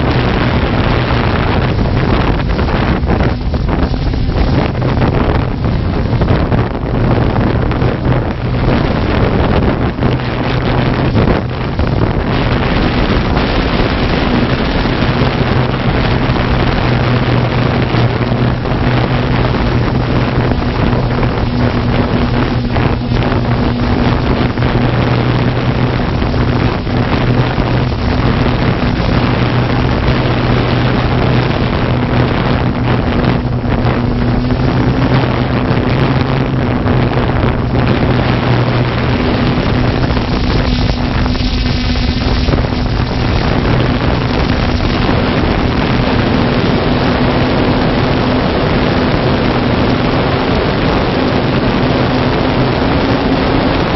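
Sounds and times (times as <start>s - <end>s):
drone rotors humming: 0.0s - 53.9s
wind noise: 0.0s - 53.9s.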